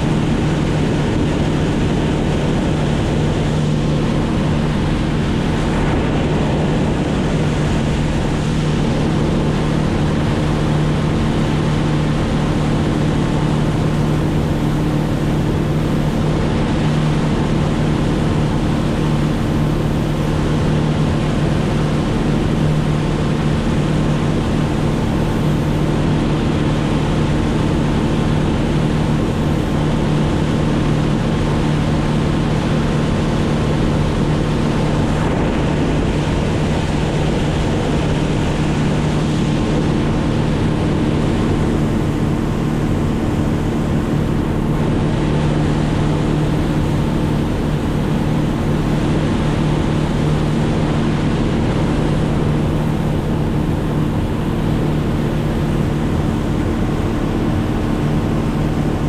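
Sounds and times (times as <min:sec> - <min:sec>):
engine droning: 0:00.0 - 0:59.0
rushing air or water: 0:00.0 - 0:59.0.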